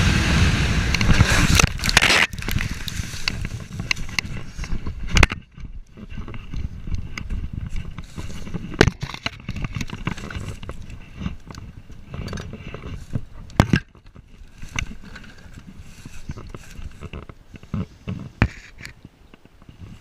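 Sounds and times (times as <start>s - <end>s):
low rumbling noise: 0.0s - 20.0s
knocks and scrapes: 0.9s - 20.0s.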